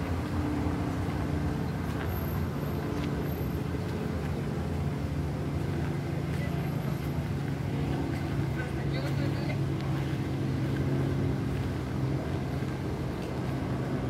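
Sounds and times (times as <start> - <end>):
city noise: 0.0 - 14.0
low engine drone: 0.0 - 14.0.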